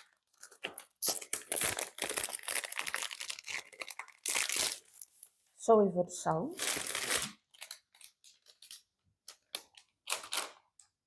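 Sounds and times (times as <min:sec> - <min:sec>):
packaging crinkling and tearing: 0:00.0 - 0:05.3, 0:06.5 - 0:10.8.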